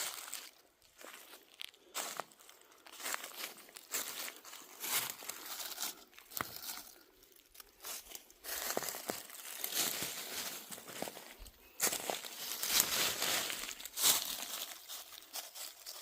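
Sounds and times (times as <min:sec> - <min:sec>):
dry leaves rustling and crunching: 0:00.0 - 0:16.0.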